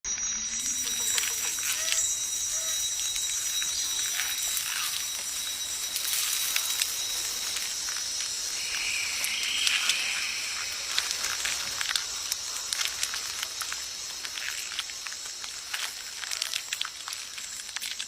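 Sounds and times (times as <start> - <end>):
crackling hiss: 0.1 - 18.0
bright rustle: 0.6 - 18.0.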